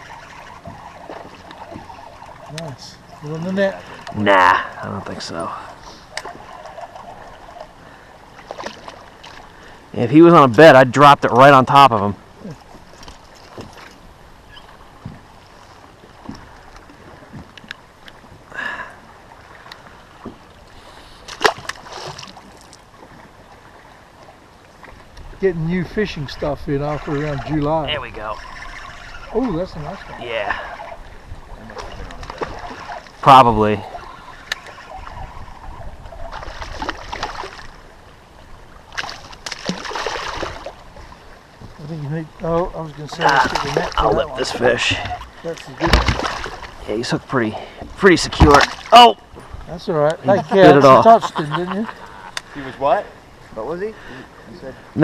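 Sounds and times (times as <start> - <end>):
water lapping and splashing: 0.0 - 55.0.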